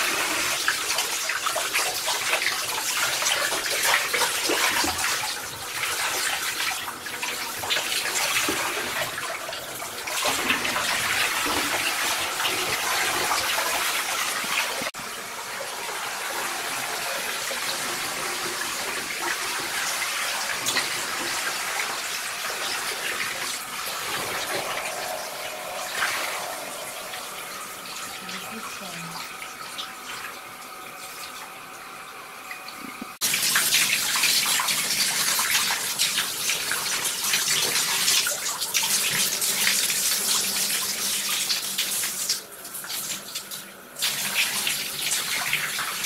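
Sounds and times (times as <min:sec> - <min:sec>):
water splashing into bathtub: 0:00.0 - 0:31.5, 0:32.5 - 0:46.0
shower spray running: 0:00.0 - 0:32.0, 0:32.6 - 0:46.0.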